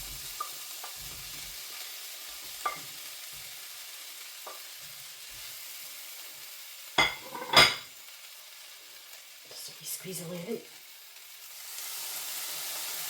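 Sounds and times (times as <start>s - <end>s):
spices sizzling in oil: 0.0s - 13.0s.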